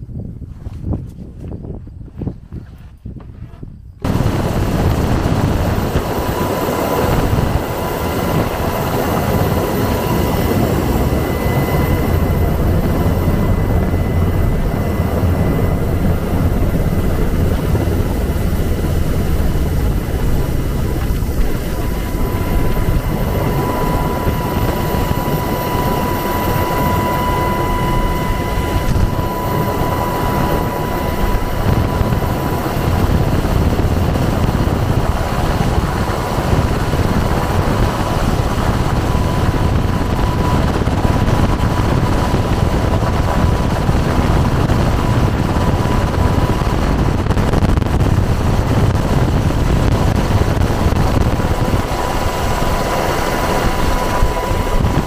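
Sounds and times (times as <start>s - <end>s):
helicopter rotor and engine noise: 0.0s - 55.0s
high whine: 3.4s - 55.0s.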